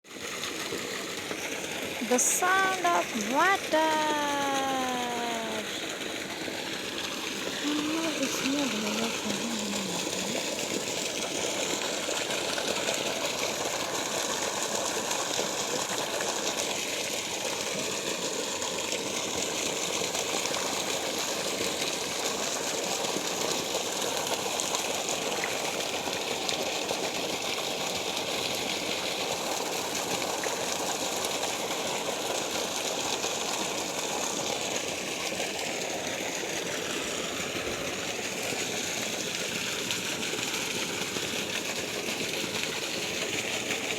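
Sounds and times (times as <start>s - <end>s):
water flowing and gushing: 0.1s - 43.9s.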